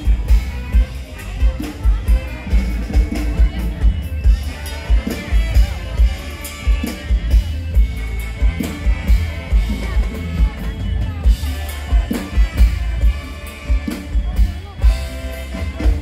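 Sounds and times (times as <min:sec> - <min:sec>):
live band through loudspeakers: 0:00.0 - 0:16.0.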